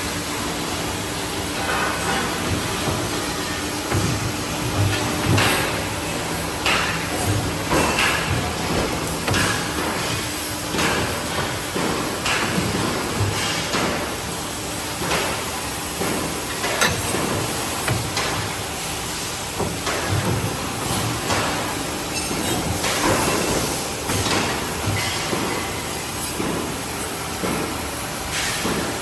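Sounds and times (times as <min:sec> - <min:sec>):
steady machine noise: 0:00.0 - 0:28.1
tube bending machine clanks: 0:01.6 - 0:26.8.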